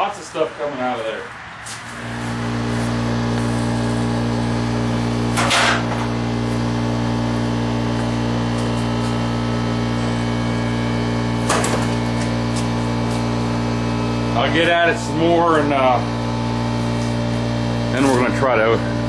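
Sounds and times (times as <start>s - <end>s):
steady low hum: 0.1s - 19.0s.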